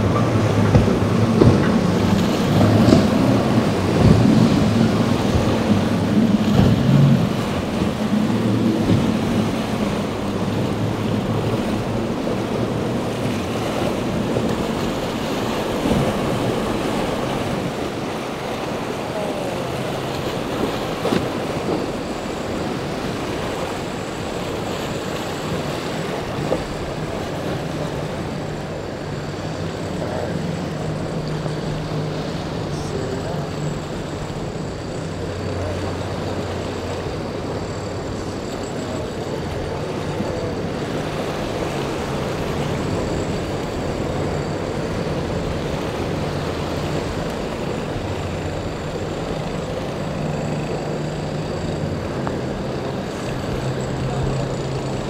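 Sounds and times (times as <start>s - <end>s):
outboard engines running: 0.0s - 55.0s
rushing water and spray: 0.0s - 55.0s.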